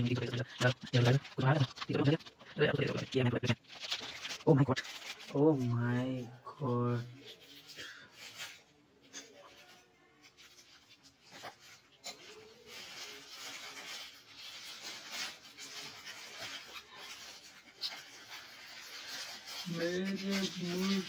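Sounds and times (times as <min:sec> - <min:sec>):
tissue paper and plastic crinkling: 0:00.0 - 0:21.0.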